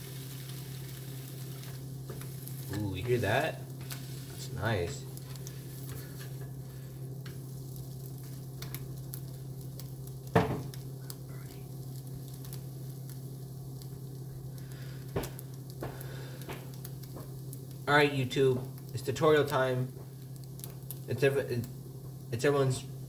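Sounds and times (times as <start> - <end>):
eggs sizzling in a pan: 0.0 - 23.0
steady low hum: 0.0 - 23.0.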